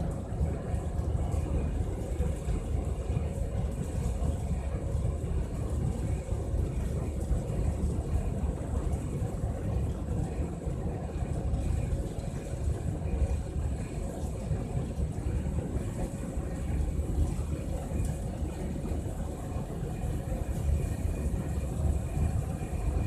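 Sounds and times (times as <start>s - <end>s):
faint steady hum: 0.0s - 23.0s
pellet burner rumbling: 0.0s - 23.0s.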